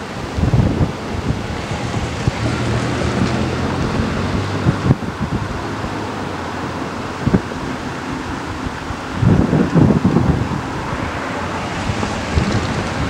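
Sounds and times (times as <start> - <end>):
diesel locomotive engine drone: 0.0 - 13.0
wind buffeting microphone: 0.0 - 13.0.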